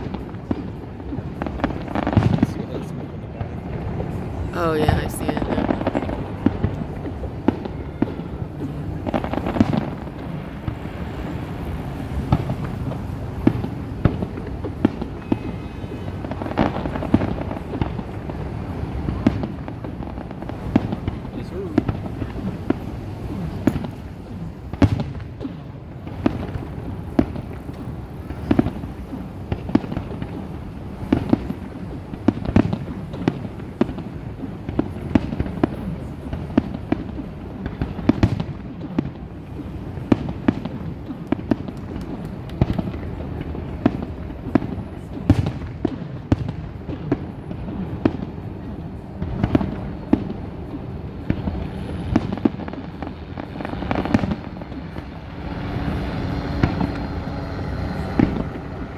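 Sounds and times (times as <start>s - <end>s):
fireworks bursting: 0.0s - 58.9s.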